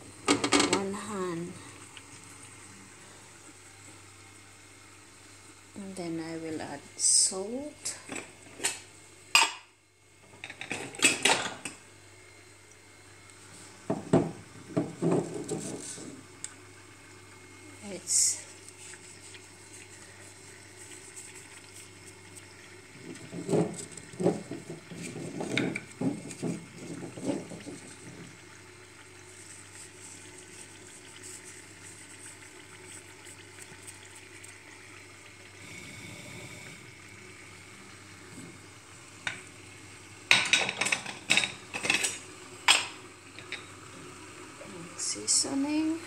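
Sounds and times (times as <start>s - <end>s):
fish frying with faint sizzle: 0.0s - 46.0s.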